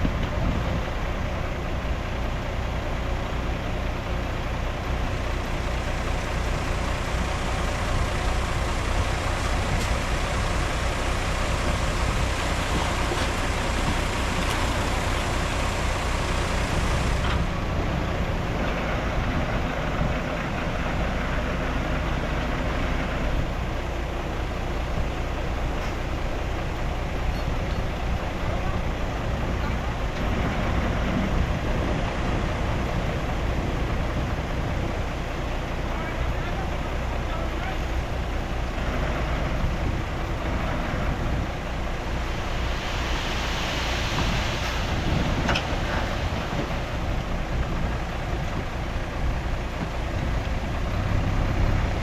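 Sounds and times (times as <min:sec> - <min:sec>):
heavy diesel machinery running: 0:00.0 - 0:52.0.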